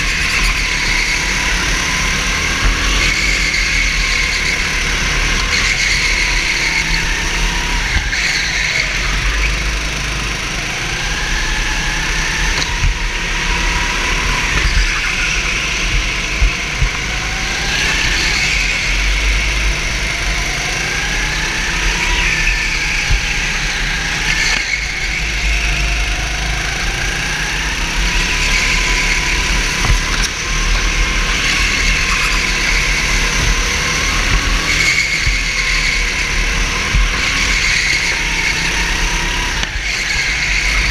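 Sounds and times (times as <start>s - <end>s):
another go-kart engine: 0.0s - 40.9s
go-kart engine accelerating: 0.0s - 40.9s.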